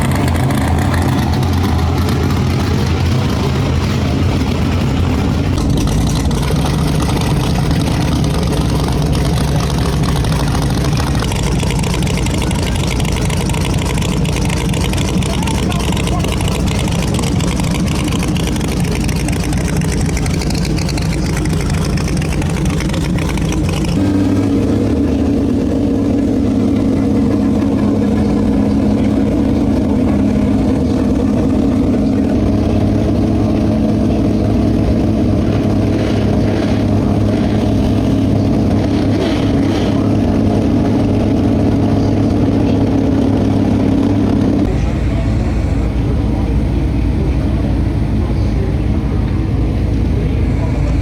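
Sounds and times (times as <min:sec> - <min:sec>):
steady engine hum: 0:00.0 - 0:51.0
vehicle engine running loudly: 0:00.0 - 0:51.0.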